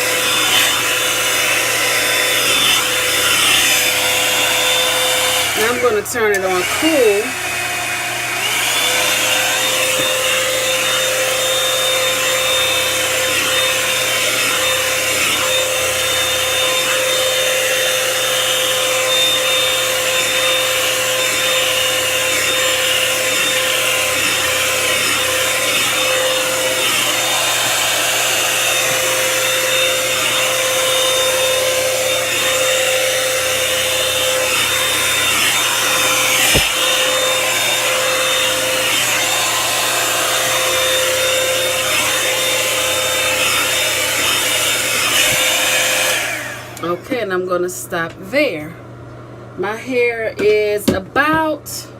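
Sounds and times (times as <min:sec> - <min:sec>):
hair dryer brush running: 0:00.0 - 0:48.6.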